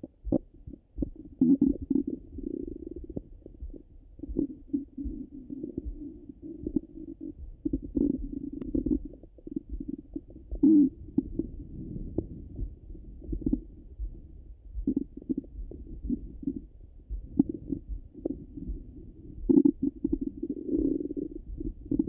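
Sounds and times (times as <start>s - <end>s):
stomach gurgles: 0.0s - 22.0s.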